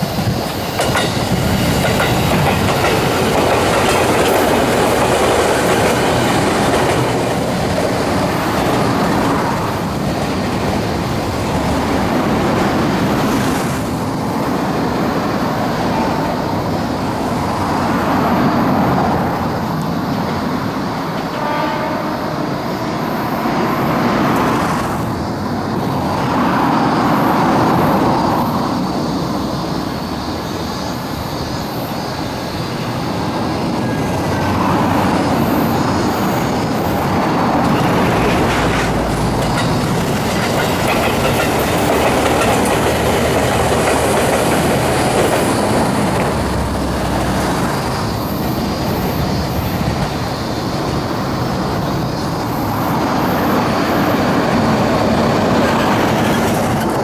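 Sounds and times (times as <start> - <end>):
train wheels clattering over rail joints: 0.0 - 21.4, 26.9 - 57.0
high wheel squeal: 0.0 - 57.0.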